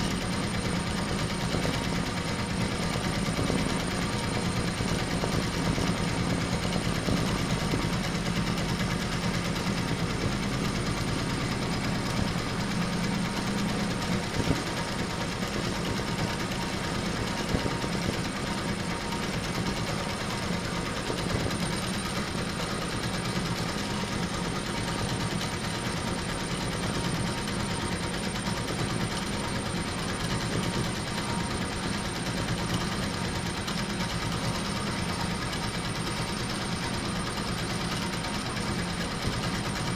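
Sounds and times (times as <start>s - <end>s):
embroidery machine running: 0.0s - 39.9s.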